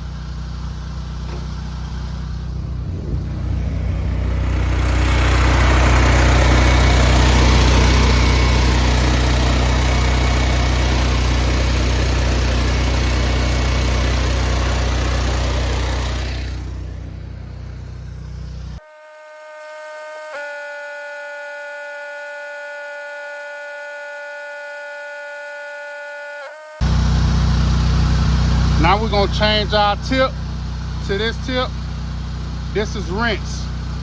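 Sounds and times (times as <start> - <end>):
pressure washer engine running: 0.0 - 18.8, 20.5 - 34.0.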